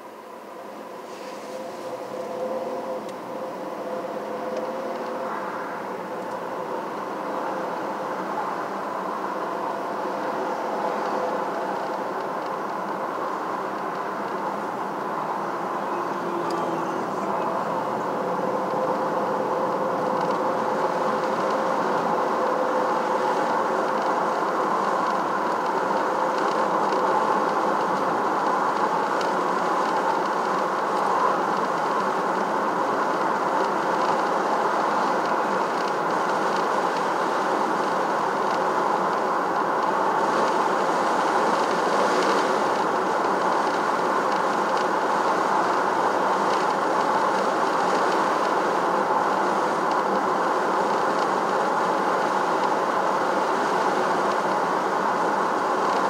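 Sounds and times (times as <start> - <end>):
vehicle road and engine rumble: 0.1 - 56.0.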